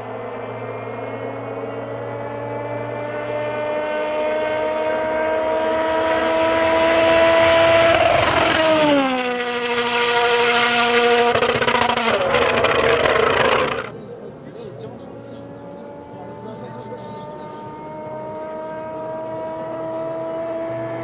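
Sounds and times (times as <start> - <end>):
rally car engine at high revs: 0.0 - 14.0, 14.9 - 21.0.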